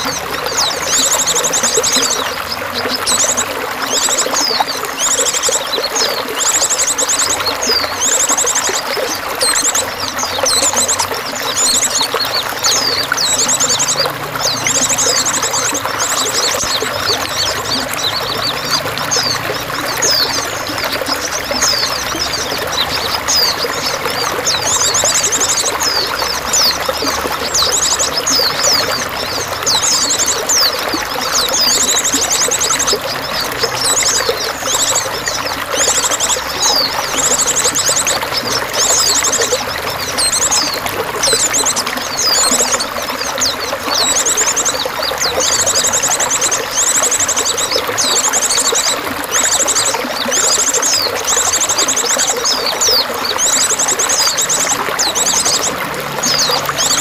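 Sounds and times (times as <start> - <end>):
small birds chirping and trilling: 0.0 - 57.0
water running and splashing: 0.0 - 57.0.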